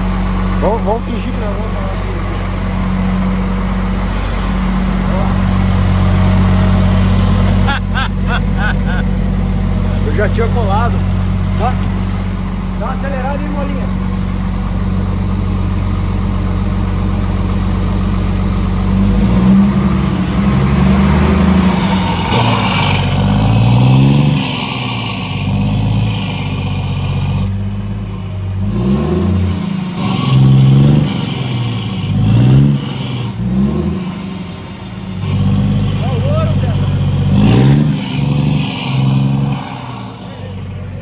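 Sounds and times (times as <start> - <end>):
truck diesel engine revving: 0.0 - 41.0.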